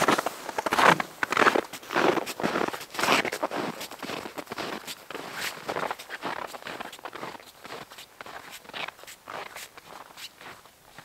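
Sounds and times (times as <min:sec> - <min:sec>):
footsteps crunching in snow: 0:00.0 - 0:11.0.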